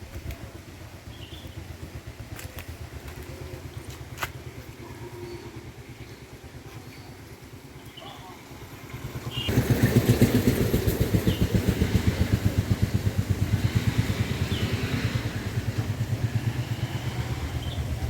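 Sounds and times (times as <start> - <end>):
small engine chugging: 0.0 - 18.0.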